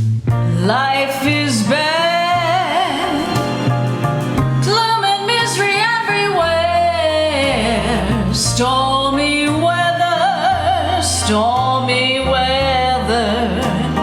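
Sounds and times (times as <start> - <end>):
instrumental backing with bass: 0.0 - 14.0
woman singing with vibrato: 0.5 - 3.7, 4.6 - 14.0.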